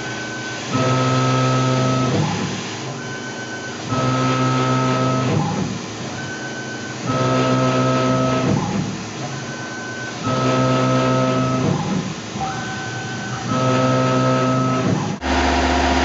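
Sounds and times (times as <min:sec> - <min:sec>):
cnc mill motors humming: 0:00.0 - 0:16.0.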